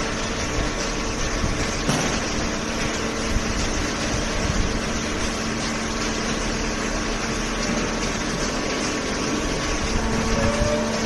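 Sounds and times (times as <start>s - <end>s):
baler hydraulic pump hum: 0.0s - 11.0s.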